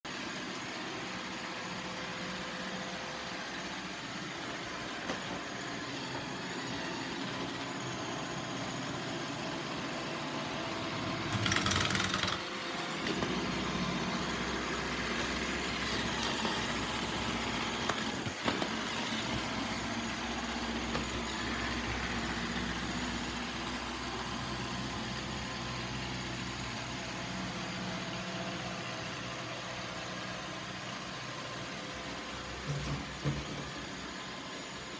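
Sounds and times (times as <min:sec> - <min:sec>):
robot vacuum humming: 0:00.1 - 0:34.9.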